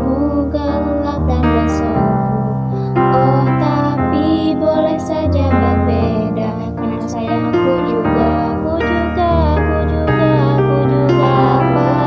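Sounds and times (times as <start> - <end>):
piano playing held chords: 0.0 - 12.0.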